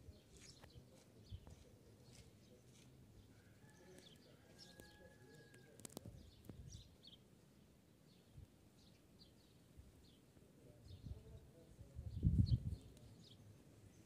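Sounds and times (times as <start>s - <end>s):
faint small birds chirping: 0.0s - 14.0s.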